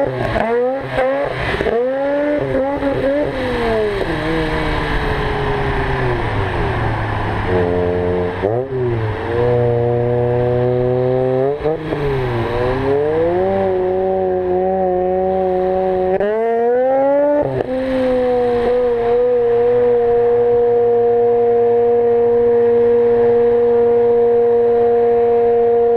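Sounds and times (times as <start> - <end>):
rotary engine at high revs: 0.0 - 25.9.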